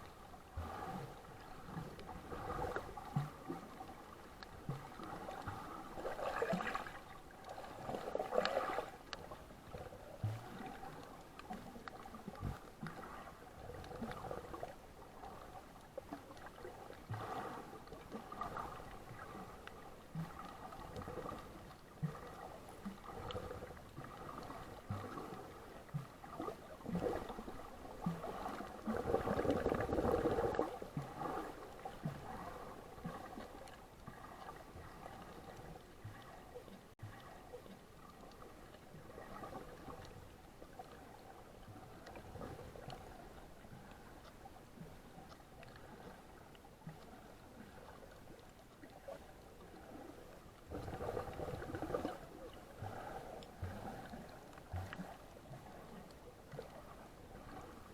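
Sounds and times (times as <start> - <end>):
water sloshing and gurgling: 0.0 - 57.9.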